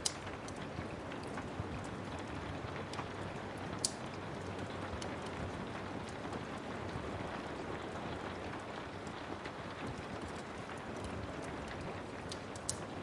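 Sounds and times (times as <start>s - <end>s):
steady rain hiss: 0.0s - 13.0s
wood fire crackling: 0.0s - 13.0s.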